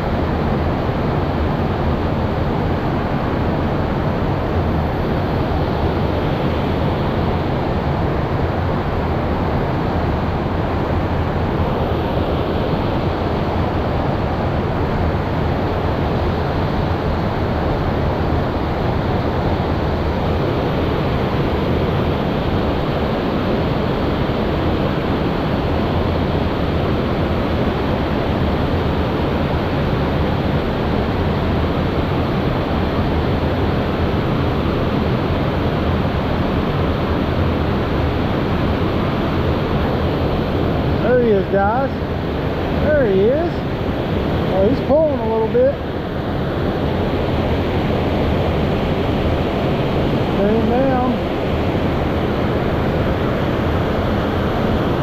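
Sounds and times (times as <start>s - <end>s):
river water rushing over spillway: 0.0s - 55.0s.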